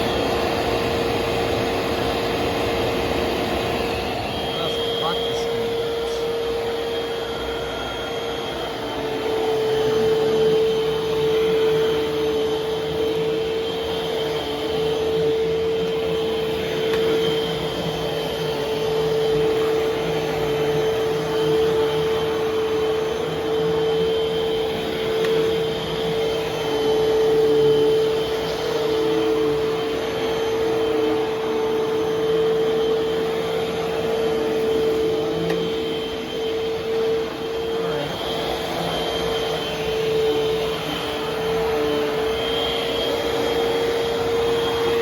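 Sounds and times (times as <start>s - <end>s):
vacuum cleaner running: 0.0s - 45.0s.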